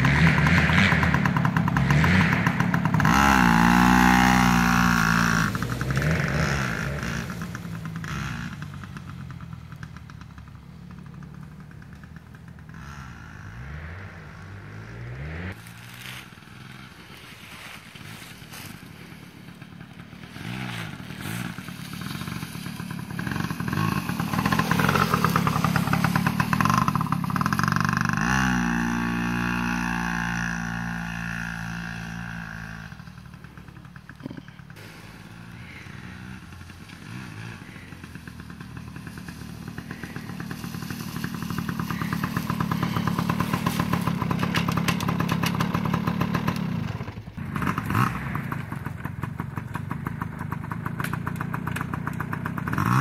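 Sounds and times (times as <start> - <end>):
dirt bike two-stroke engine: 0.0 - 53.0.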